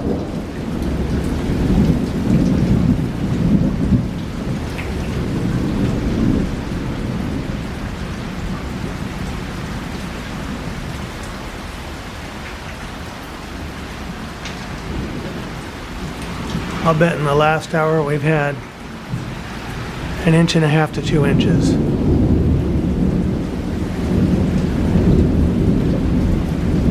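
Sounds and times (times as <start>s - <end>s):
heavy rain: 0.0s - 26.9s
thunder rumbling: 0.0s - 26.9s.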